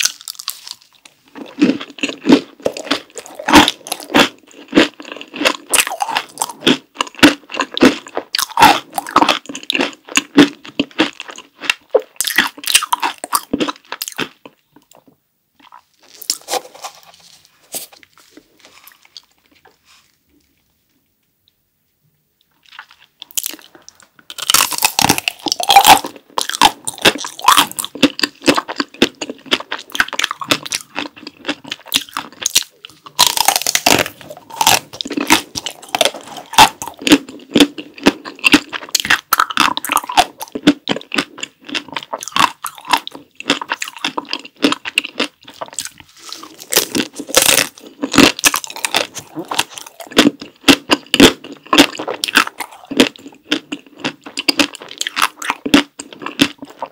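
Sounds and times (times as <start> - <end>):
chocolate shell crunching: 0.0 - 15.0, 23.2 - 56.9
chewing: 0.0 - 20.6, 22.4 - 56.9.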